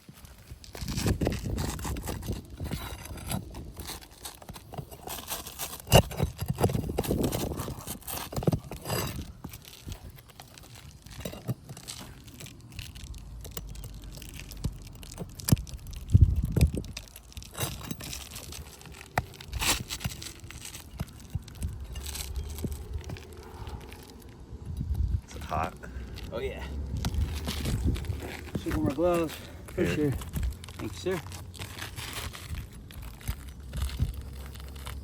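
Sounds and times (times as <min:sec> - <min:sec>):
rustling and scraping shingles: 0:00.0 - 0:35.0.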